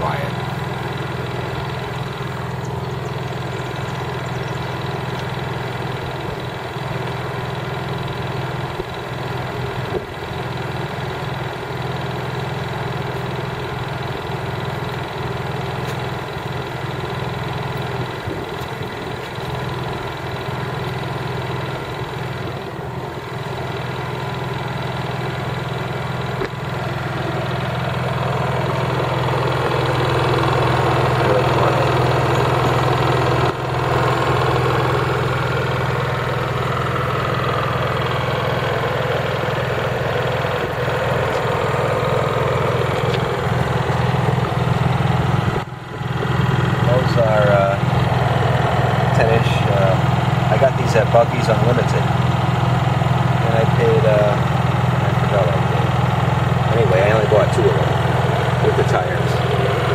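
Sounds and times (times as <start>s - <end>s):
generator engine humming: 0.0s - 59.9s.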